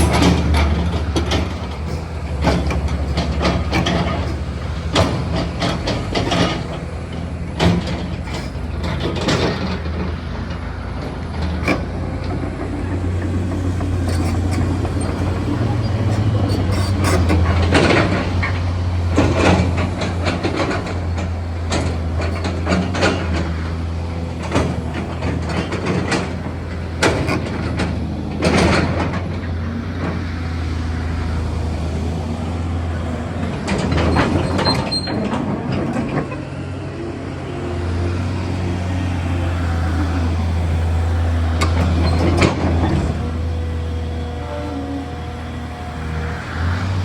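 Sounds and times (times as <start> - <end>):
machine clanks and knocks: 0.0 - 30.8, 33.0 - 37.0, 39.7 - 44.1
excavator diesel engine running: 0.0 - 47.0.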